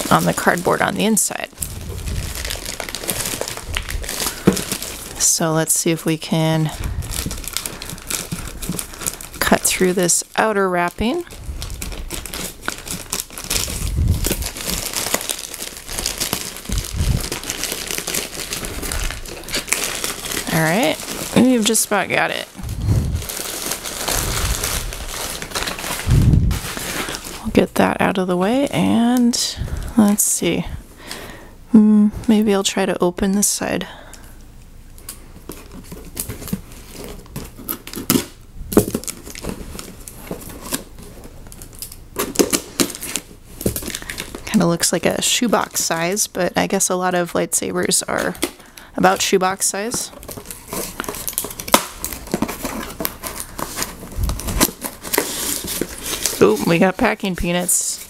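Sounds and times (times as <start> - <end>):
plastic mailer crinkling and tearing: 0.0 - 30.1, 35.0 - 46.3, 47.9 - 58.0.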